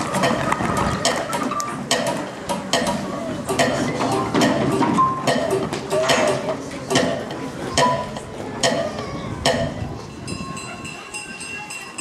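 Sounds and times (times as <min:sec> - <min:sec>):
sharp rhythmic knocks: 0:00.1 - 0:09.8.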